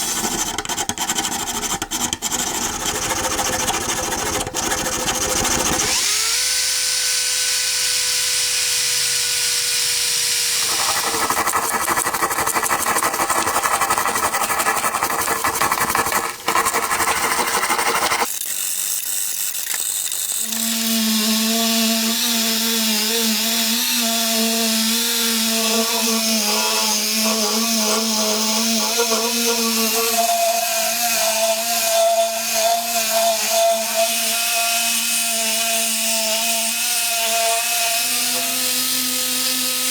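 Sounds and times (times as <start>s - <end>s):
small power tool running: 3.1s - 39.9s.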